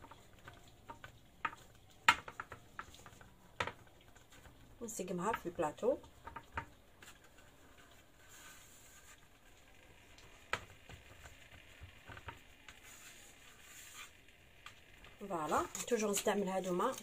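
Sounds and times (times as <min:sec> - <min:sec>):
hands patting and rubbing dough: 0:00.0 - 0:17.0.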